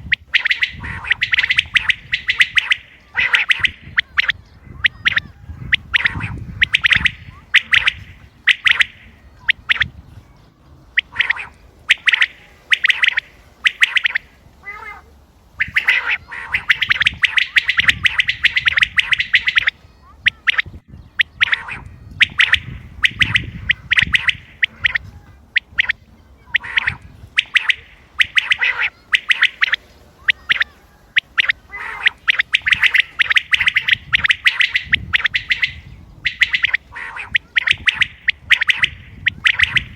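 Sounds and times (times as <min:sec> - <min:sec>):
quail calling: 0:00.0 - 0:10.0, 0:11.0 - 0:39.9.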